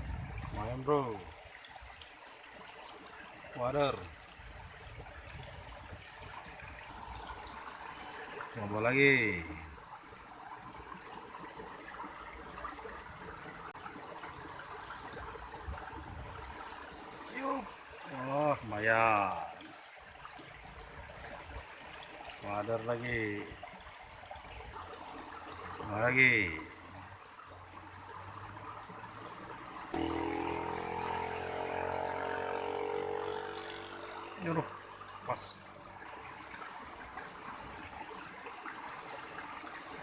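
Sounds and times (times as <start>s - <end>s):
water trickling in channel: 0.0s - 40.0s.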